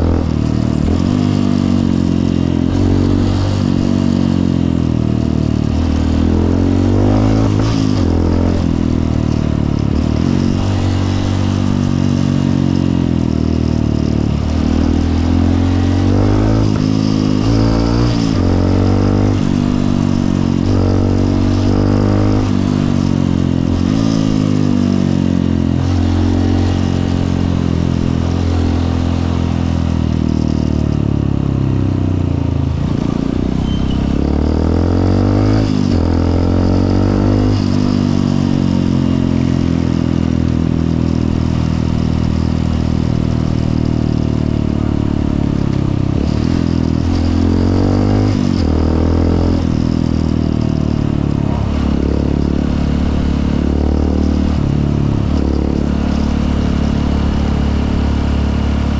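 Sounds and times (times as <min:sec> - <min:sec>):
dirt bike engine running: 0:00.0 - 0:58.9
road and wind noise: 0:00.0 - 0:58.9.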